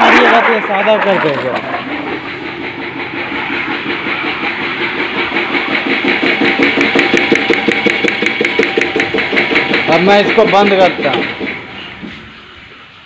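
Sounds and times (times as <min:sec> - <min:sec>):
pressure pump pulsing knock: 0:00.0 - 0:12.4
water jet hissing: 0:00.0 - 0:13.0.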